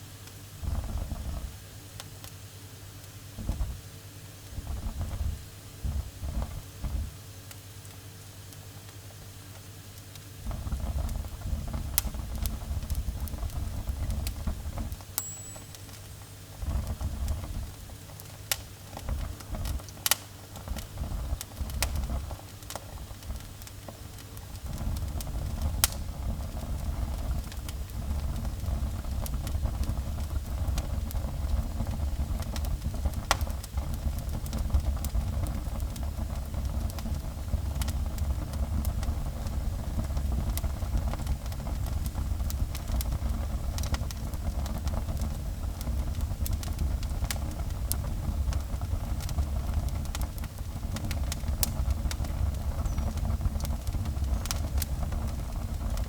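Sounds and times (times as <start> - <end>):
wood fire crackling and popping: 0.2 - 56.0.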